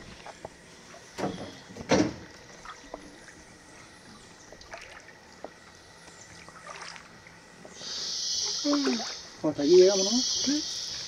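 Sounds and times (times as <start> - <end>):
water splashing: 0.0 - 7.6, 8.4 - 11.0.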